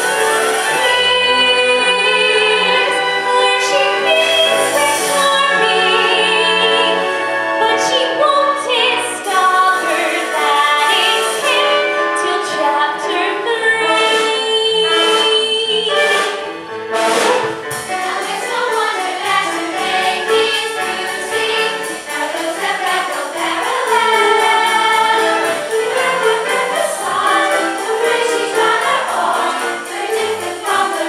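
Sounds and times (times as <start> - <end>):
instrumental accompaniment: 0.0 - 31.0
singers holding notes with vibrato: 0.0 - 31.0.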